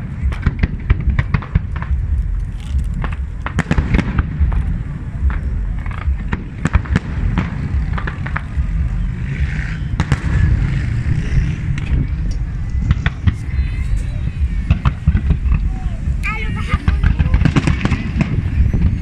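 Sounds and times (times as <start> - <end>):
deep rumble: 0.0 - 19.0.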